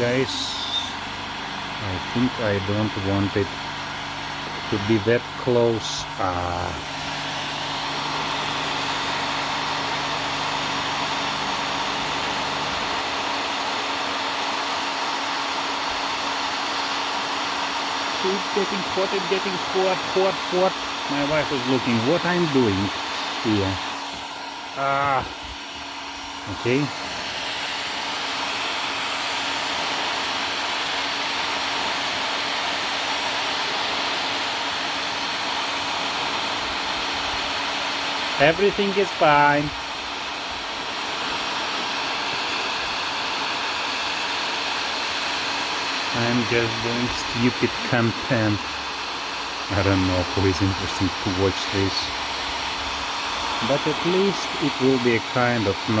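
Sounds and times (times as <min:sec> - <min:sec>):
heat gun blowing: 0:00.0 - 0:56.0.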